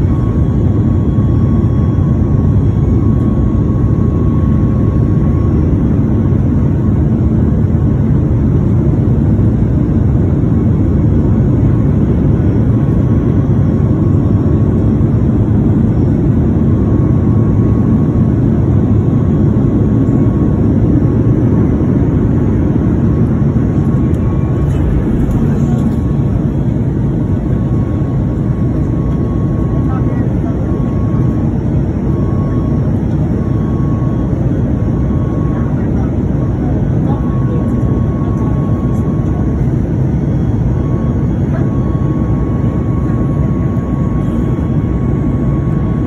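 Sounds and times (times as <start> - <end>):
airplane cabin engine rush: 0.0 - 46.0.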